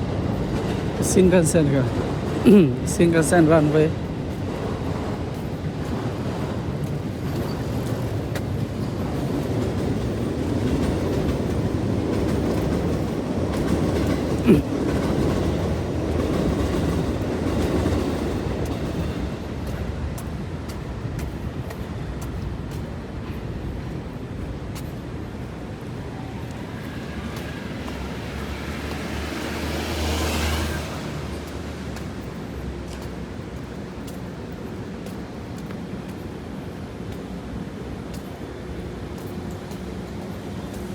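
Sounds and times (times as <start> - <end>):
train passing rumble: 0.0 - 40.9.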